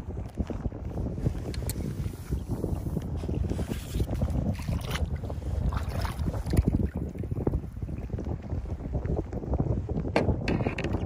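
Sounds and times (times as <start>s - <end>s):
water noise of kayak: 0.0s - 11.0s
wind buffeting microphone: 0.0s - 11.0s.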